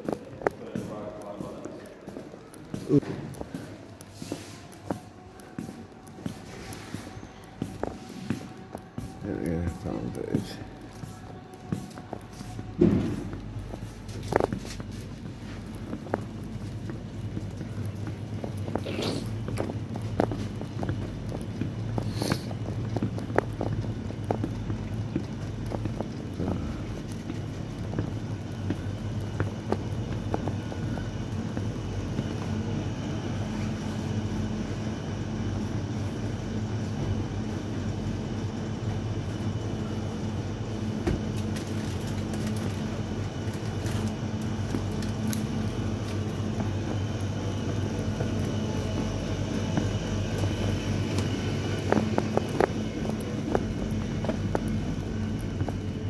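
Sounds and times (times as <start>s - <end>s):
refrigerator electrical hum: 0.0s - 56.0s.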